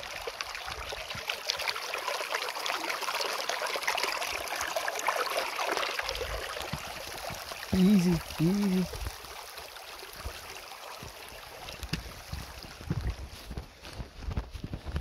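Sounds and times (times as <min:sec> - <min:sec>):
stream babbling over rocks: 0:00.0 - 0:13.4.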